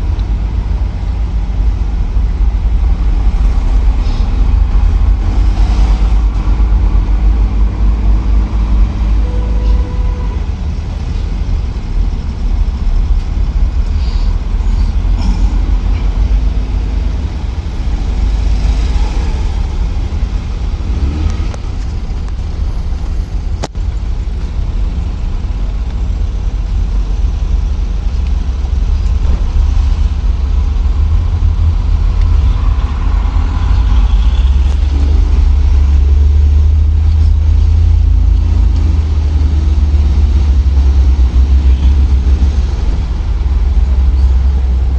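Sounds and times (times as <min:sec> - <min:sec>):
minibus engine rumbling: 0:00.0 - 0:44.9
street noise: 0:00.0 - 0:44.9.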